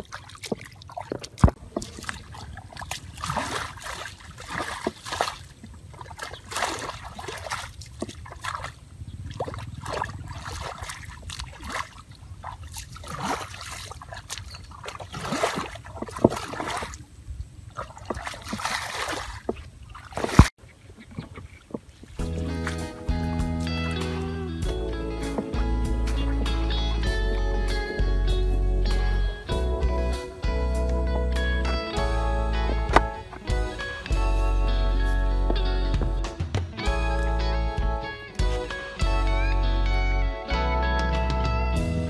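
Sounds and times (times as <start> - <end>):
feet splashing in muddy water: 0.0 - 39.4.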